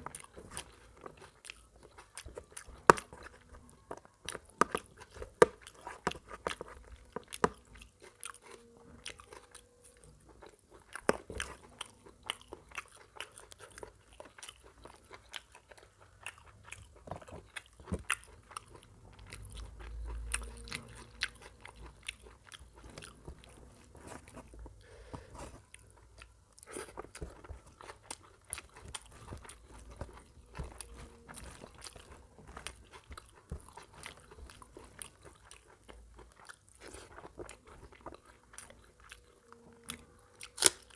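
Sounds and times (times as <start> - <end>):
close chewing of food: 0.0 - 40.9.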